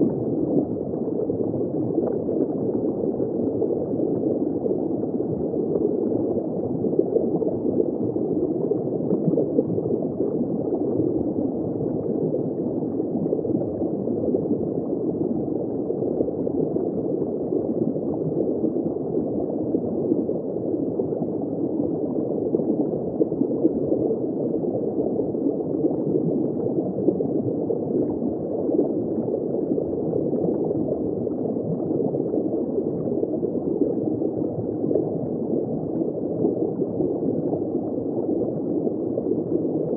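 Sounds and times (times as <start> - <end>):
fine bubbling: 0.0 - 39.9
muffled underwater rush: 0.0 - 39.9.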